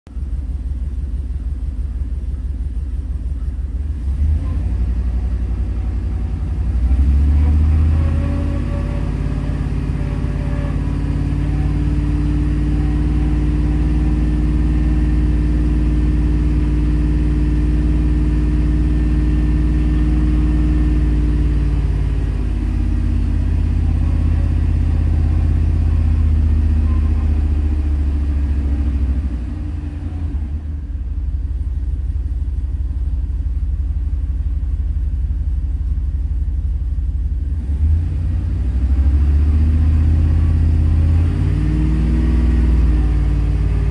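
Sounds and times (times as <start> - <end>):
truck engine running with misfire: 0.1 - 43.9.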